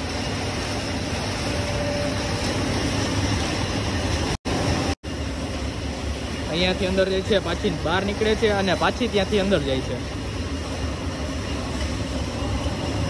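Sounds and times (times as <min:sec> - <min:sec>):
printing machinery drone: 0:00.0 - 0:13.0.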